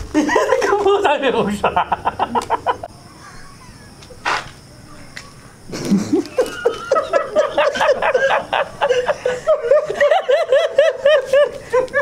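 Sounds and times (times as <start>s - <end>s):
men laughing hard: 0.1s - 4.0s, 5.7s - 12.0s.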